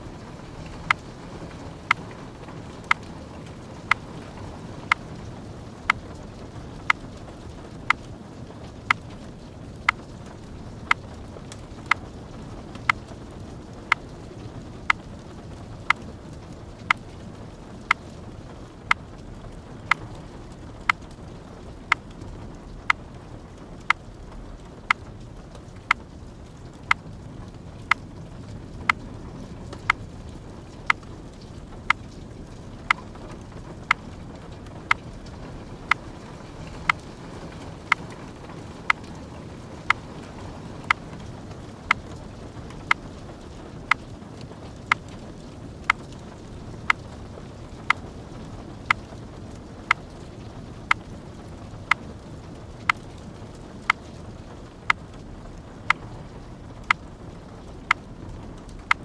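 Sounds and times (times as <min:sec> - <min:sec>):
light rain hiss: 0:00.0 - 0:59.0.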